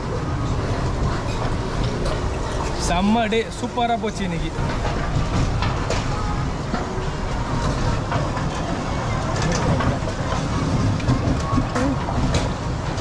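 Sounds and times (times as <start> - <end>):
ride train rumbling on track: 0.0 - 13.0.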